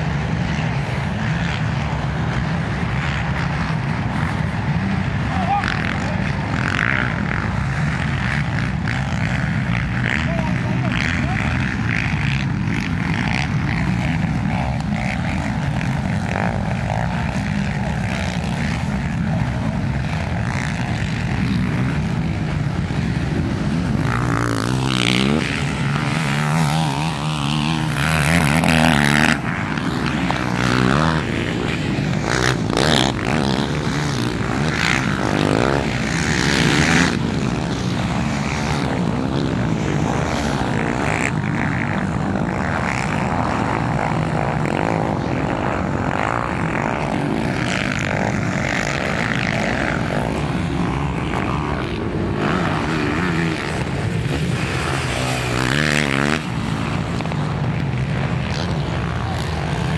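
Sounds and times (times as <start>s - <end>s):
quad engines revving: 0.0s - 59.9s.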